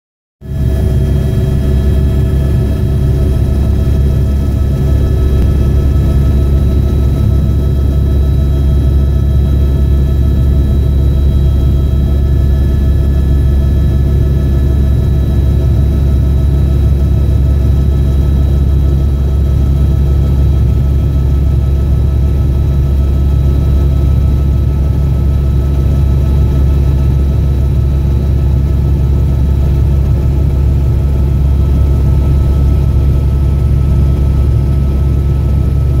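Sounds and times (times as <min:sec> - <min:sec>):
aircraft engine drone: 0:00.4 - 0:36.0.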